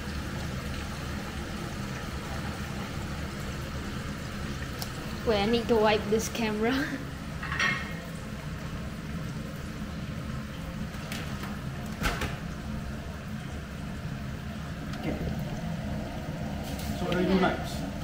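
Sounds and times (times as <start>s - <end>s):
fries sizzling in hot oil: 0.0s - 18.0s.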